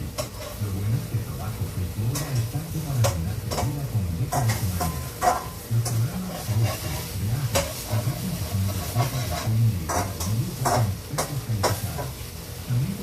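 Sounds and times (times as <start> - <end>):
spatula scraping a pan: 0.0 - 1.1, 2.0 - 12.4
tofu sizzling in a pan: 1.9 - 13.0.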